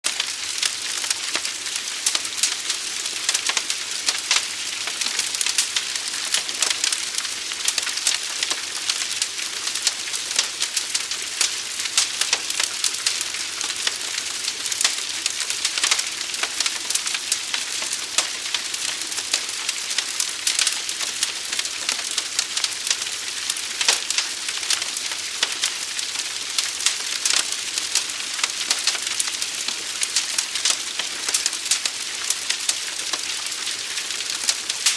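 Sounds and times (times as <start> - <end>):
fire crackling and popping: 0.0 - 34.9.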